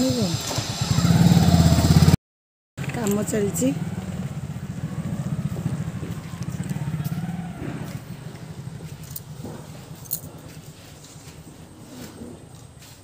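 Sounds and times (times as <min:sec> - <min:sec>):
vehicle engine running: 0:00.0 - 0:02.2, 0:02.8 - 0:12.9.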